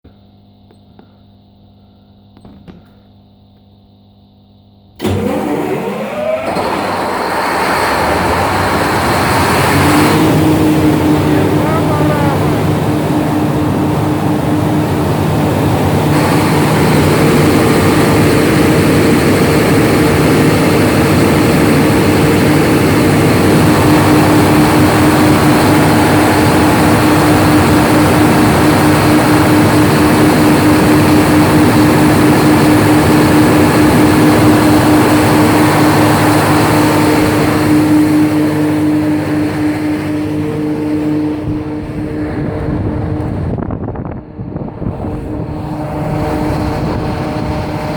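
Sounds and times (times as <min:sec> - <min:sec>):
large diesel generator running: 0:00.0 - 0:47.9
steady whine: 0:00.1 - 0:47.9.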